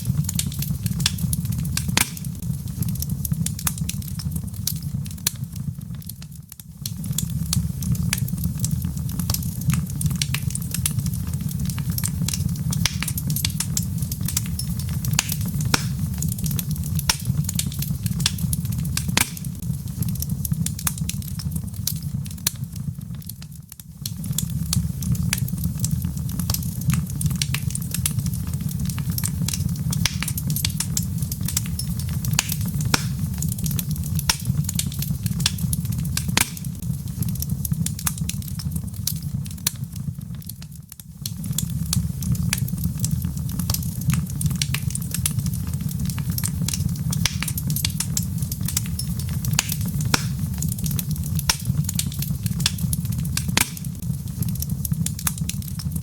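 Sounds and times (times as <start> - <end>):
log fire crackling and popping: 0.0 - 56.0
low rumble of flames: 0.0 - 56.0.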